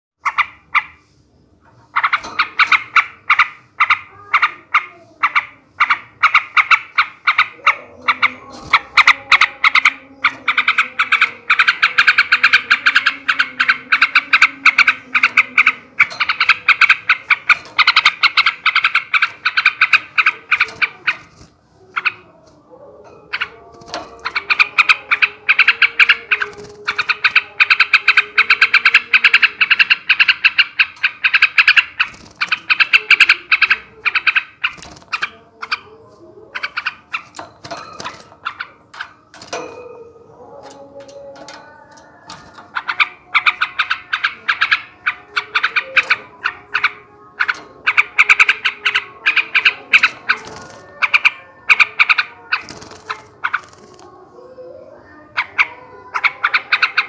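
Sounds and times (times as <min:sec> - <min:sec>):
bird singing chattering song: 0:00.2 - 0:57.0.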